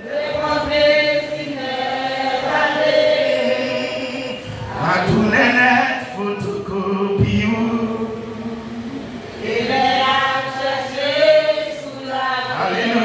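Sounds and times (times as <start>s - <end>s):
person singing worship song: 0.0s - 13.0s.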